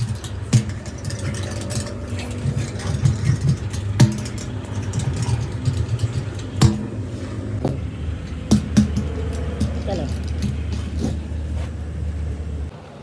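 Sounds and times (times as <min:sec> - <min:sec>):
sharp knocks: 0:00.0 - 0:11.4
light rattling: 0:00.0 - 0:12.0
vehicle engine running: 0:00.0 - 0:12.7.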